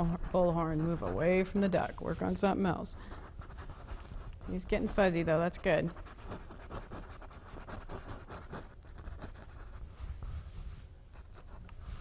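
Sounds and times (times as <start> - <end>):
paintbrush scratching on canvas: 0.0 - 12.0.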